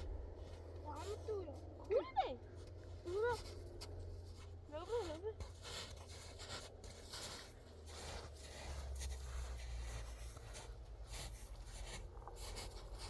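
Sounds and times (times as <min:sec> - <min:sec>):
low steady hum: 0:00.0 - 0:13.0
rustling and scraping: 0:02.5 - 0:13.0.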